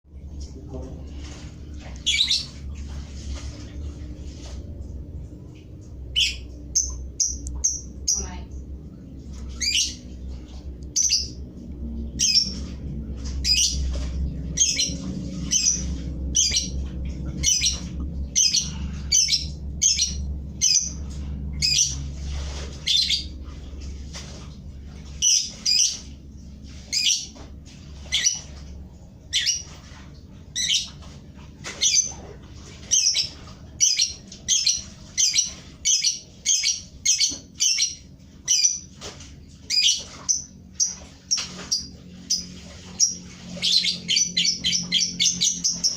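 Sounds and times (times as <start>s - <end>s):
low steady hum: 0.1s - 45.9s.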